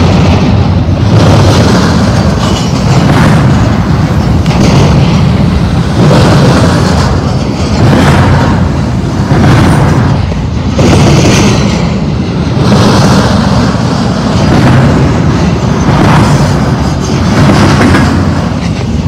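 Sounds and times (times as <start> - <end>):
rail car clatter: 0.0 - 19.0
train wheels rumbling on rails: 0.0 - 19.0.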